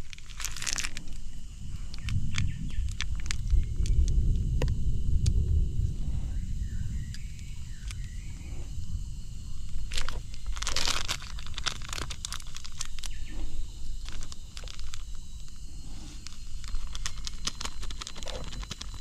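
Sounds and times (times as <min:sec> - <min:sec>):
low rumble: 0:00.0 - 0:17.6
insects chirping: 0:00.0 - 0:19.0.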